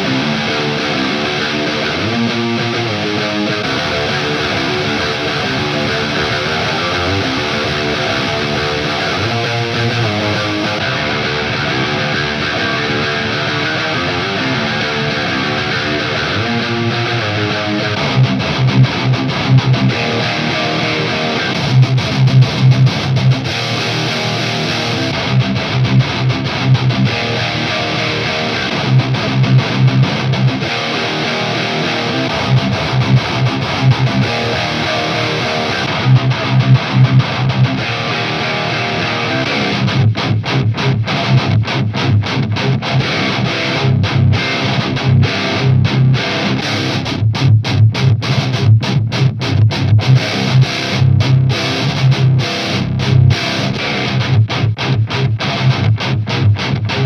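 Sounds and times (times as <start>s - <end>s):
distorted electric guitar riff: 0.0s - 57.0s.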